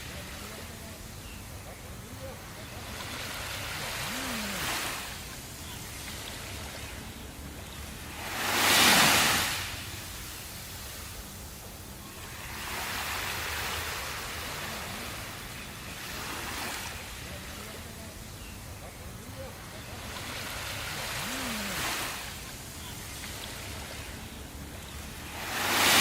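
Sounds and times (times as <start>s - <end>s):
sea waves washing in: 0.0s - 26.0s.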